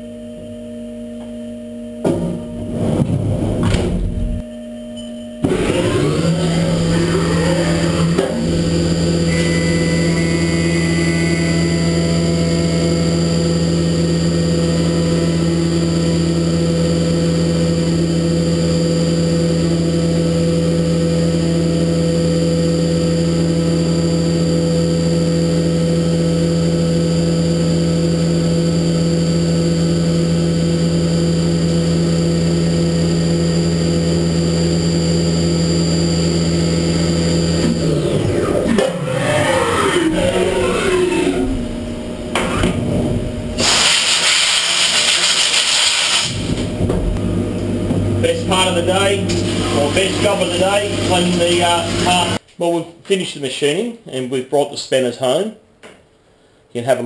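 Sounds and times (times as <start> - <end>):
milling machine whine: 0.0 - 52.4.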